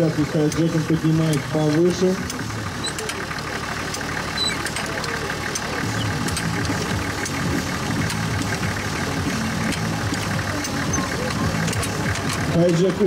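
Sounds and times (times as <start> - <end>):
jack clicking metallically: 0.0 - 13.0
truck engine idling: 0.0 - 13.0.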